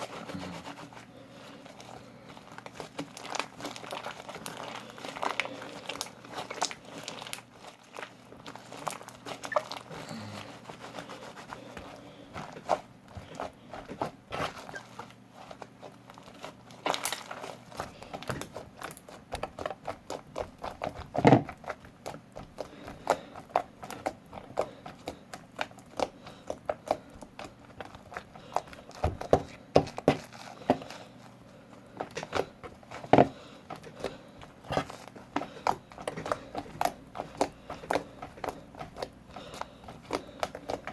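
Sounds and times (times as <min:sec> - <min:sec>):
slime squelch: 0:00.0 - 0:40.9.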